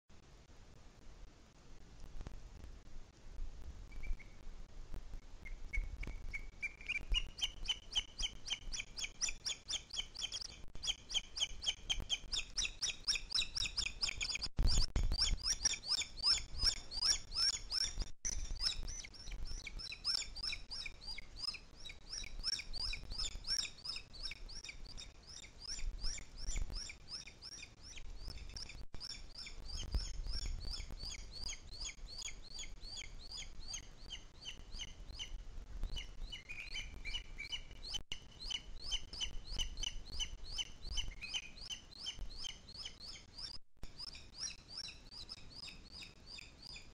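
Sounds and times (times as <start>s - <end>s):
eagle calling with high chirping notes: 3.9s - 4.4s, 5.4s - 46.9s.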